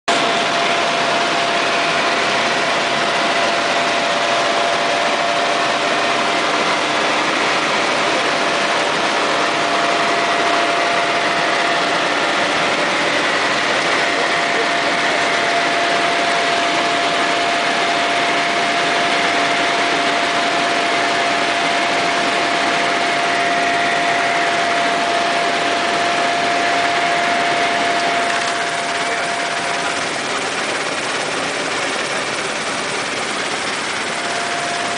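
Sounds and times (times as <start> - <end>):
constant whine: 0.1 - 34.9
helicopter engines and rotor: 0.1 - 34.9.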